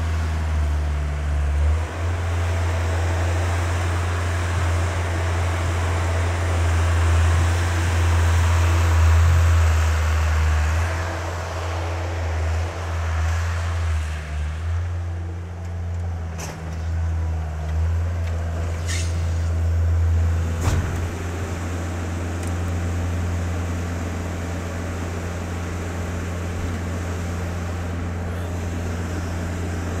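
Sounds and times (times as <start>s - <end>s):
skid steer diesel engine running: 0.0s - 30.0s.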